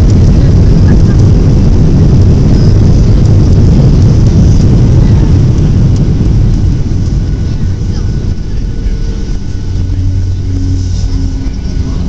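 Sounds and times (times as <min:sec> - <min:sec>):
jet engine noise: 0:00.0 - 0:12.0
landing gear rumbling on runway: 0:00.0 - 0:12.0.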